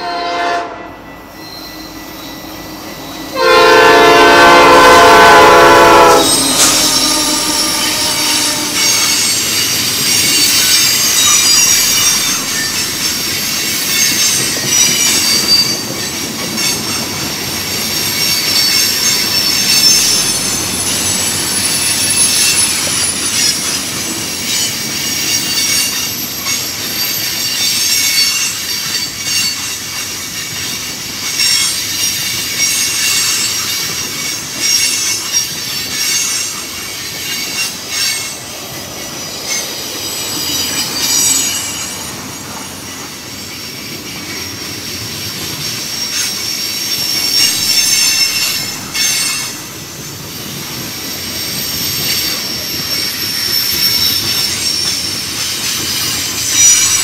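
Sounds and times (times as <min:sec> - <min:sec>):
wheels squealing on rails: 0:00.0 - 0:57.0.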